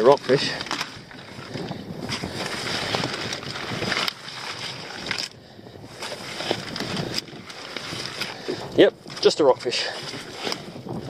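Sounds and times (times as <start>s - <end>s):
lobster pot rustling and knocking: 0.0s - 11.0s
water sloshing against hull: 0.0s - 11.0s.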